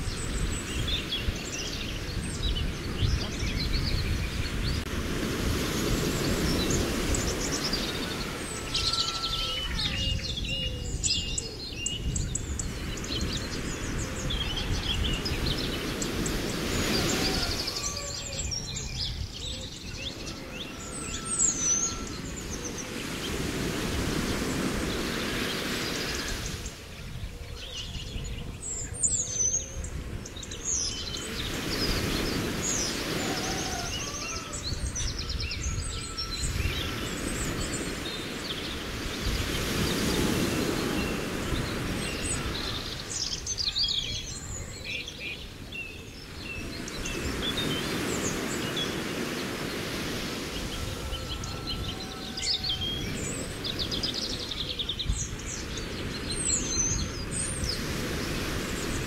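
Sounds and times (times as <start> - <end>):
lake water washing: 0.0 - 10.0, 12.7 - 27.0, 30.2 - 44.4, 46.6 - 59.0
birds chirping and singing: 0.0 - 59.0.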